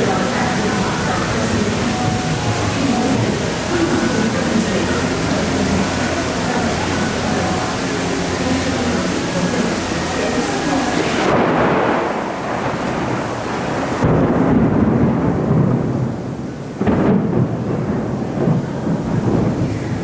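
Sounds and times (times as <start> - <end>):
heavy rain: 0.0 - 20.0
thunder rumbling: 0.0 - 20.0.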